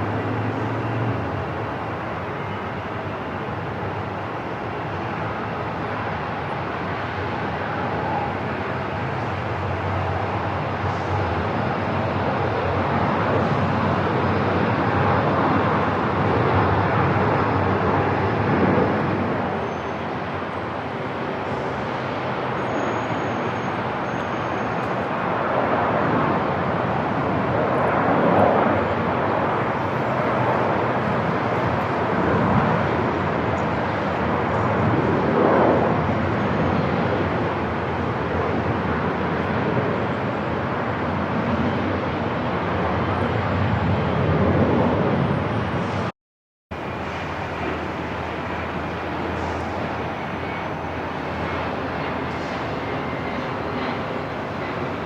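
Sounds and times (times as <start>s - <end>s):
airport ambience roar: 0.0s - 46.1s, 46.7s - 55.0s.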